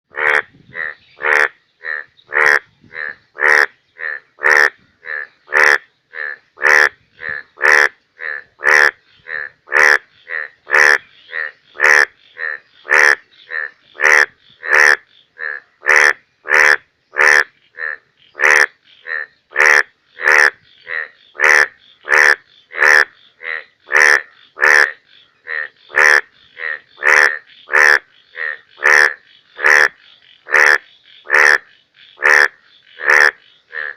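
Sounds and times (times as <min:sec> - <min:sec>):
bullfrog croaking: 0:00.1 - 0:33.9.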